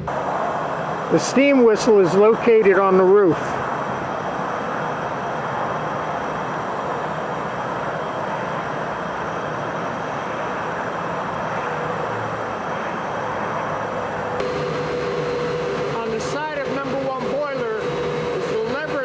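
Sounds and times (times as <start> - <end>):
steady machinery noise: 0.0 - 19.0.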